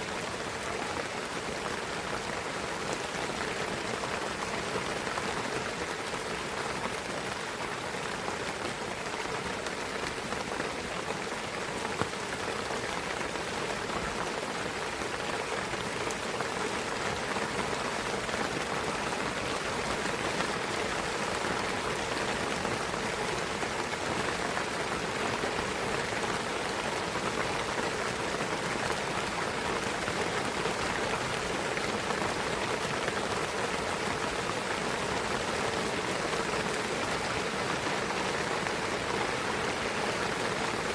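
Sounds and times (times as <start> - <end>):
rain pattering in forest: 0.0 - 40.9.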